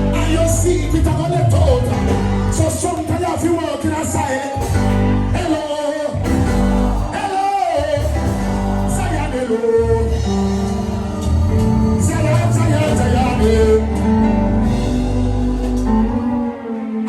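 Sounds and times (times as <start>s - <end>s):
instrumental backing with bass: 0.0s - 3.0s, 4.6s - 16.8s
person singing: 0.0s - 17.0s.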